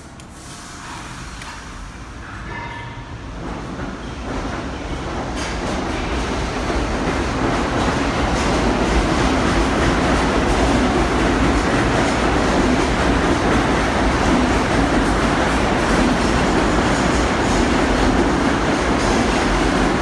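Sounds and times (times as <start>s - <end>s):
subway train rumbling past: 0.0s - 20.0s.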